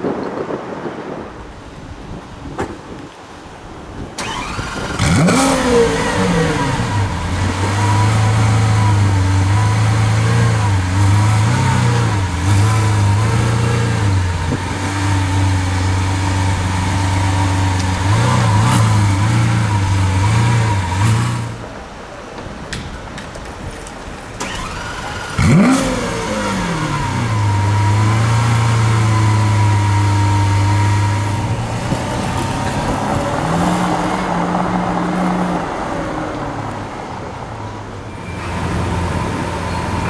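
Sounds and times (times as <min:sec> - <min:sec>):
car engine starting and idling: 0:04.1 - 0:22.1, 0:24.1 - 0:40.0.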